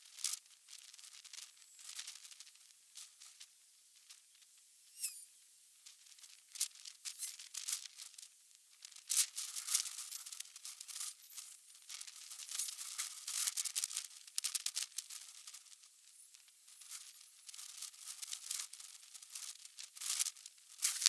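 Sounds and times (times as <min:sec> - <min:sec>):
crackling tearing hiss: 0:00.0 - 0:21.0.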